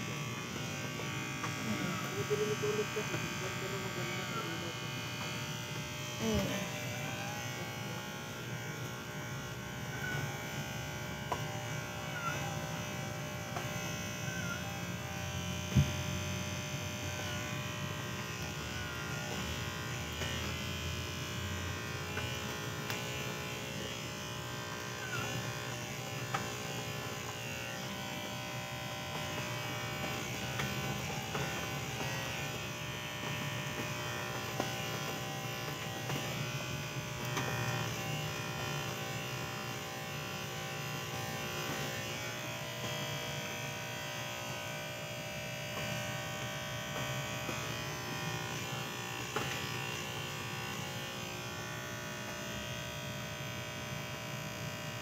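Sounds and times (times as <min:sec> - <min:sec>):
electric hair clippers buzzing: 0:00.0 - 0:55.0.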